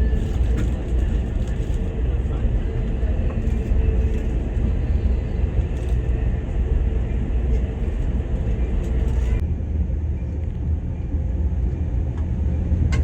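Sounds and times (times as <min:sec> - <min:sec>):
train rumble from inside car: 0:00.0 - 0:13.0.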